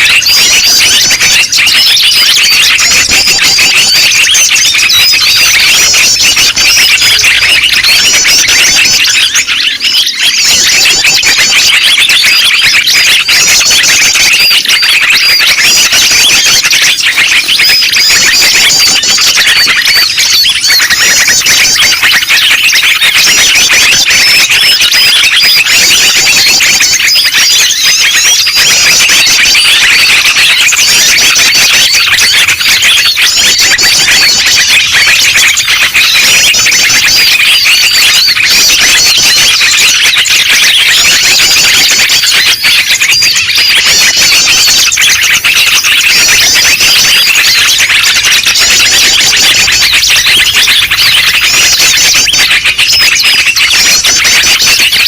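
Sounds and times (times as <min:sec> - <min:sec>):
rapid high bird trill: 0:00.0 - 0:55.0
songbirds chirping and twittering: 0:00.0 - 0:55.0.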